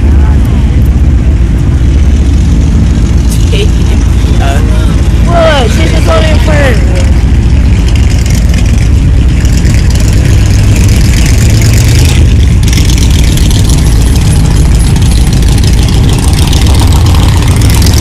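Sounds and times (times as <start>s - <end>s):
car engine idling loudly: 0.0s - 18.0s.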